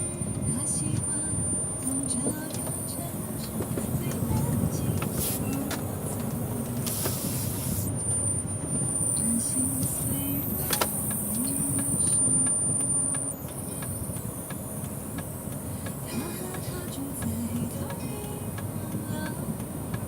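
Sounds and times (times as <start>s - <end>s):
high-pitched whine: 0.0s - 20.0s
speaker hiss: 2.1s - 7.9s, 9.1s - 12.2s, 12.8s - 20.0s.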